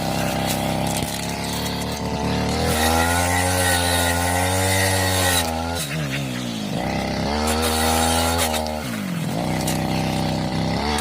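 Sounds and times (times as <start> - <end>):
brush cutter engine at high throttle: 0.0 - 11.0.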